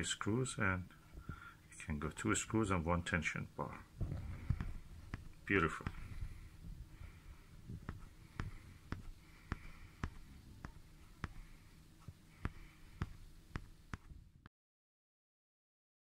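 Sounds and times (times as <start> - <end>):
low room rumble: 0.0 - 14.5.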